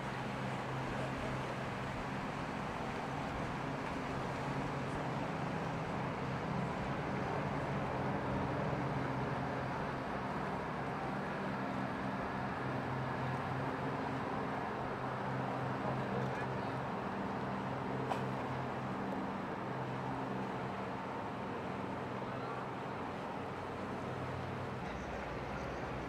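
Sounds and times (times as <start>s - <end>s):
churning water rushing: 0.0s - 26.0s.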